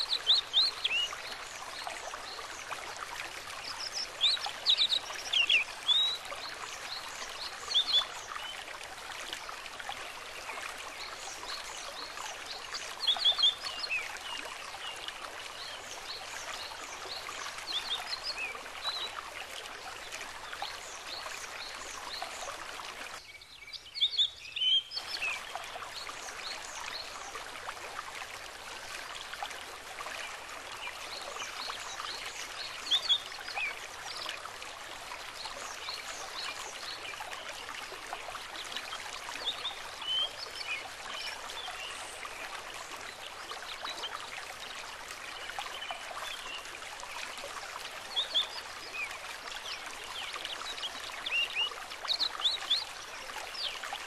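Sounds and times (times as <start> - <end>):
babbling stream: 0.0 - 54.0.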